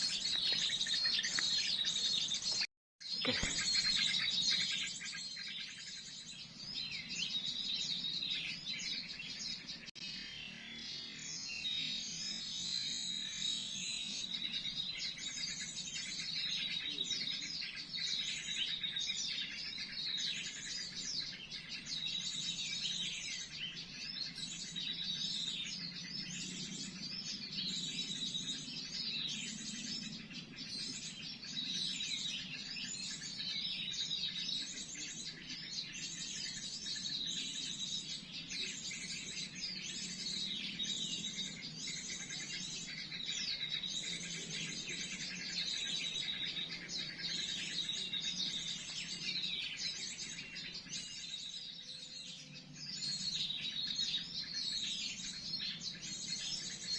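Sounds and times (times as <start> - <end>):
songbirds chirping: 0.0 - 56.9.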